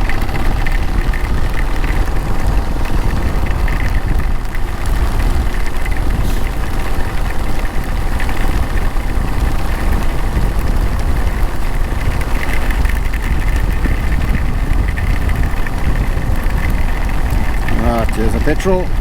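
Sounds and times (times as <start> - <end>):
low rumble: 0.0 - 19.0
motorcycle engine running: 0.0 - 19.0.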